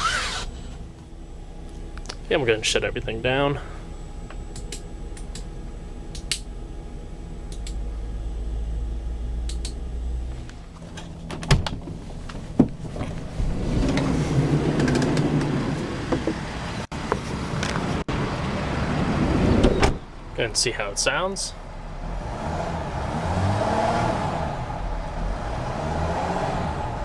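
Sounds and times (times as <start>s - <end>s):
van engine idling: 0.0s - 23.0s.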